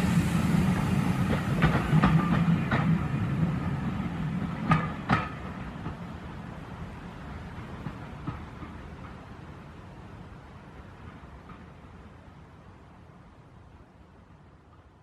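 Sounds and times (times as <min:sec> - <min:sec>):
steam train rumbling past: 0:00.0 - 0:15.0.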